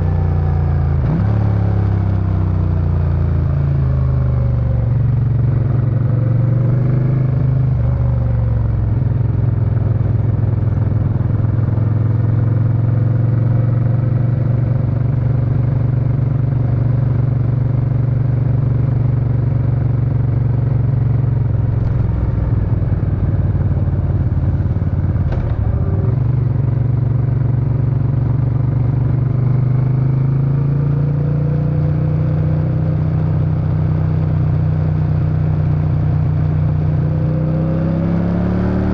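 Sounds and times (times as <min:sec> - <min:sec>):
motorcycle exhaust at cruising speed: 0:00.0 - 0:38.9.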